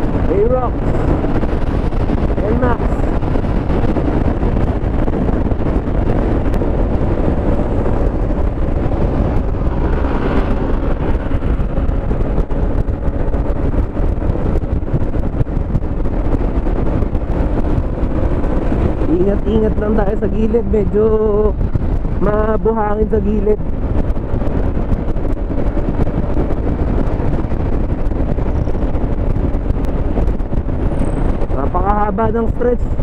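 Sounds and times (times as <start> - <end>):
scooter engine drone: 0.0 - 33.0
wind rushing over microphone: 0.0 - 33.0.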